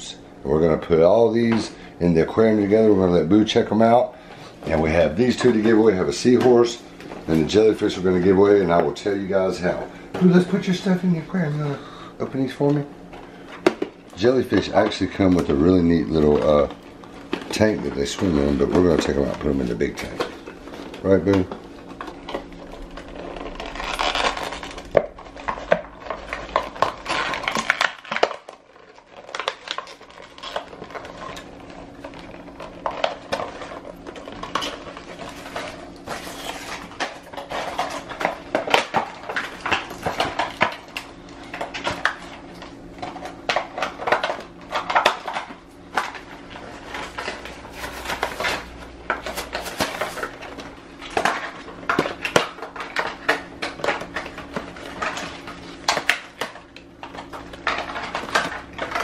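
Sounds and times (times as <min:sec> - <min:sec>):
plastic packaging crinkling: 0:00.0 - 0:59.0.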